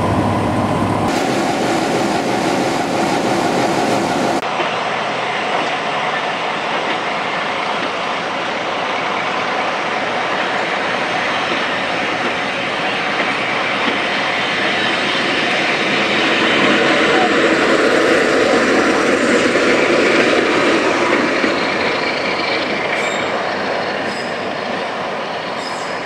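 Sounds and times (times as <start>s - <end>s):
train wheels rumbling on rails: 0.0s - 26.0s
clickety-clack of rails: 1.0s - 26.0s.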